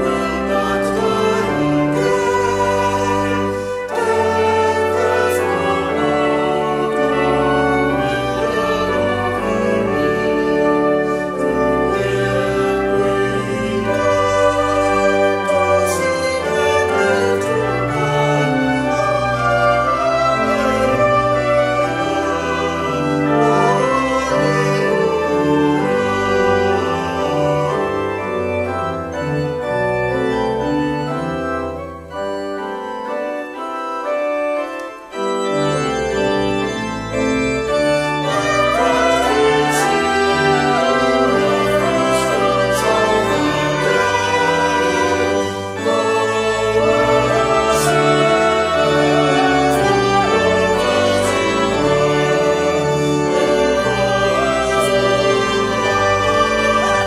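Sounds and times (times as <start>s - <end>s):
choir singing: 0.0s - 57.0s
organ accompaniment: 0.0s - 57.0s.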